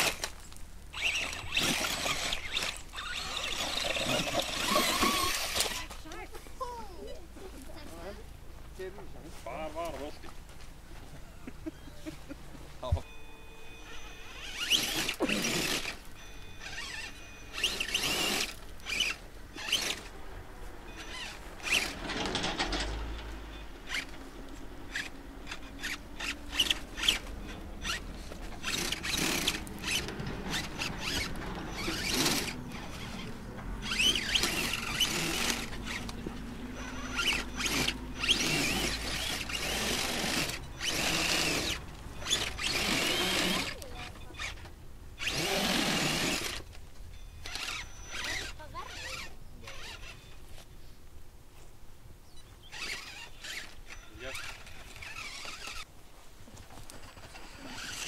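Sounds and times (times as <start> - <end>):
small electric motors whining: 0.0 - 8.2, 11.0 - 50.7, 52.3 - 55.9, 56.8 - 58.0.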